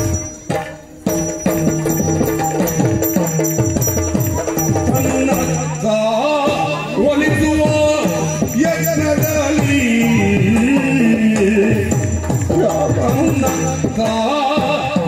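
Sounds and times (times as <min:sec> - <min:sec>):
high ringing metal: 0:00.0 - 0:14.3.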